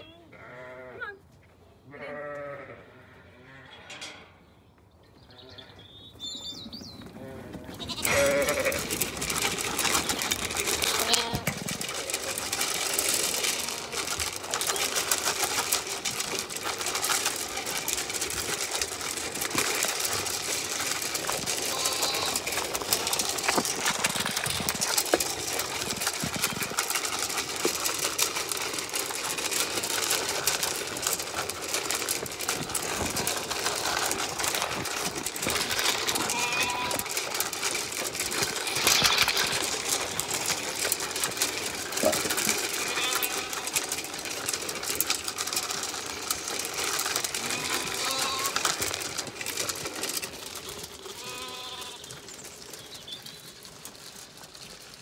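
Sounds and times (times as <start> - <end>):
sheep crunching feed pellets: 0.0 - 0.9, 1.6 - 4.5, 5.2 - 55.0
pellets clicking on metal trough: 7.7 - 55.0.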